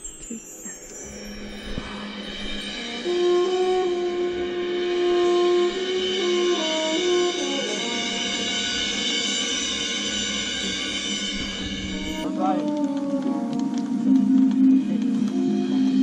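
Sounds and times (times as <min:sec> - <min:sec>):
marching band playing slowly: 0:02.6 - 0:16.0.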